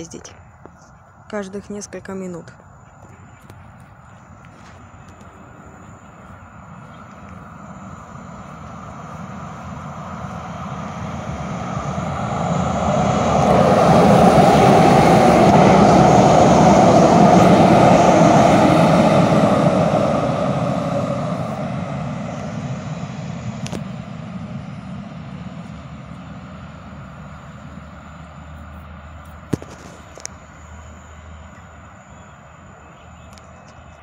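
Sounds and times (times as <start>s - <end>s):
train passing rushing noise: 0.0s - 32.9s.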